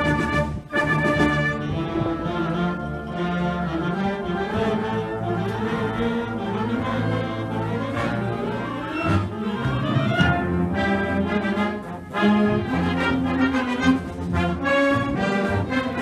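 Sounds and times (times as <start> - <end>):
brass band playing film music: 0.0 - 16.0
low brass chords: 0.0 - 16.0.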